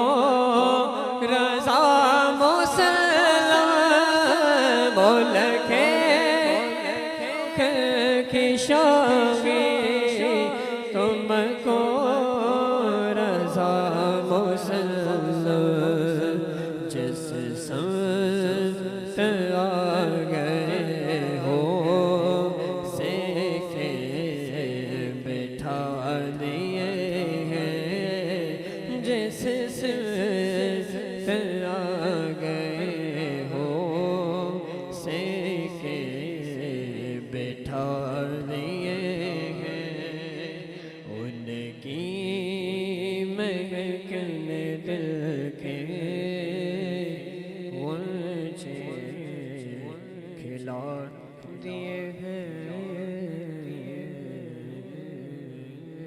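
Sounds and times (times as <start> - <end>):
person singing devotional song: 0.0 - 56.0.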